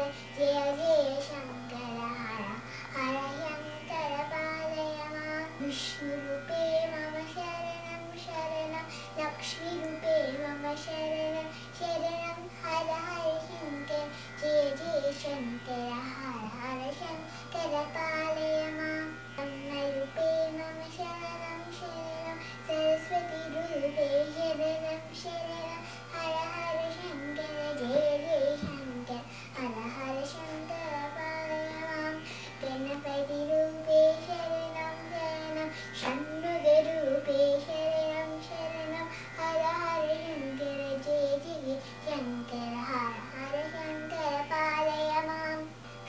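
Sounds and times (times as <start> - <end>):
girl singing devotional song: 0.0 - 46.0.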